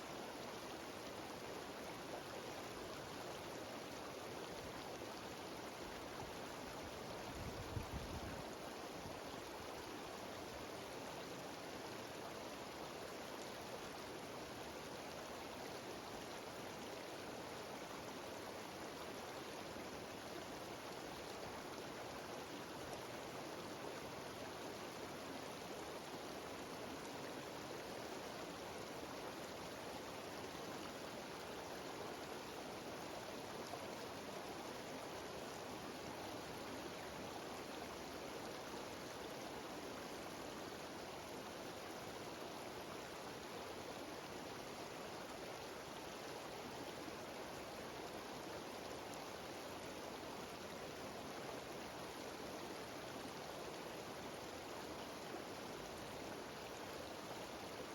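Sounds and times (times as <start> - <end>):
stream rushing over waterfalls: 0.0 - 57.9.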